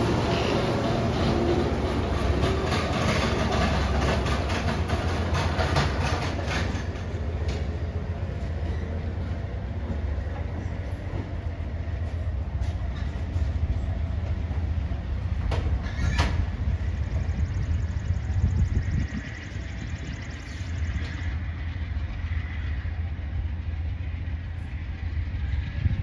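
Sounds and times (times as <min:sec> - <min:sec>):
train rumble: 0:00.0 - 0:26.0
train wheels clicking over rail joints: 0:00.0 - 0:26.0.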